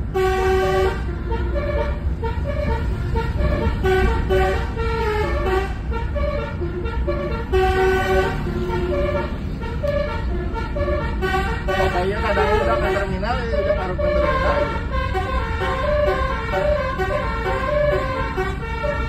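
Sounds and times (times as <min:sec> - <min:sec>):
bus engine running: 0:00.0 - 0:19.0
bus horn playing a tune: 0:00.0 - 0:19.0.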